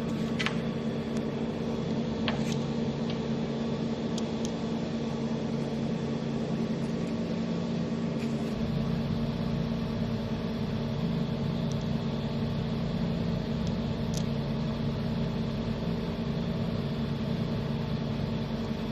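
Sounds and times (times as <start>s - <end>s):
machine hum with fan: 0.0s - 18.9s.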